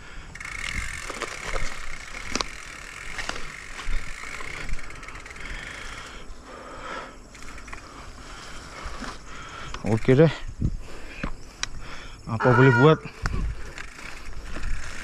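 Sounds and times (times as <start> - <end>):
bike rattling and clicking: 0.1 - 15.0.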